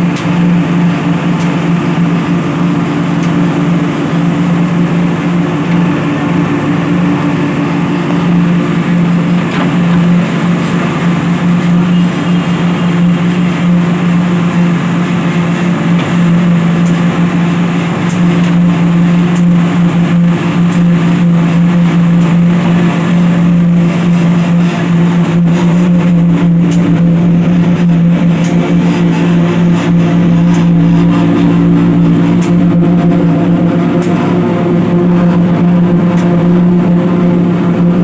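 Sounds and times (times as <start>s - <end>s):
large engine humming steadily: 0.0s - 38.0s.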